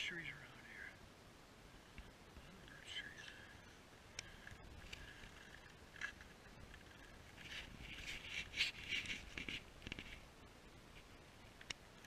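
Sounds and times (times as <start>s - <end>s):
rustling near microphone: 1.7s - 11.7s.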